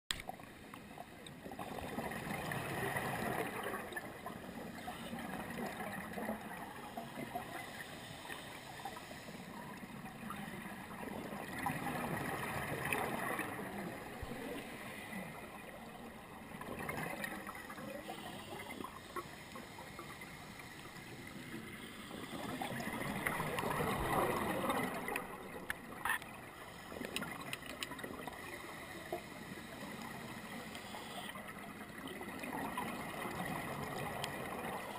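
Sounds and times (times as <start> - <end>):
underwater bubbling from regulator: 0.1 - 34.9.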